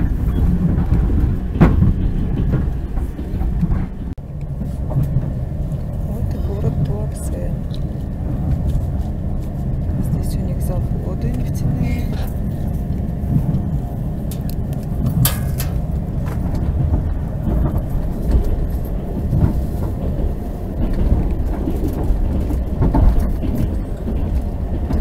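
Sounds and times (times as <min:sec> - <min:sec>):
train carriage rumble on rails: 0:00.0 - 0:25.0.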